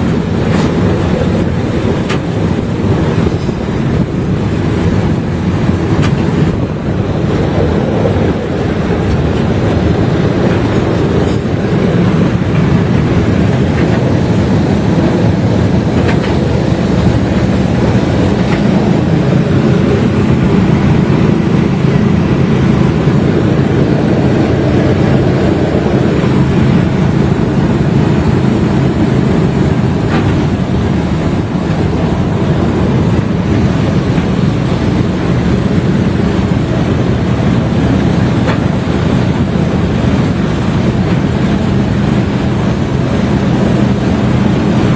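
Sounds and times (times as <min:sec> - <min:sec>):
small train rumbling on track: 0:00.0 - 0:44.9.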